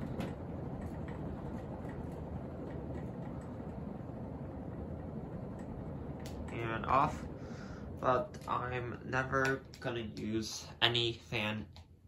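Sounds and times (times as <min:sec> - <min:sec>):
ceiling fan whirring: 0:00.0 - 0:12.0.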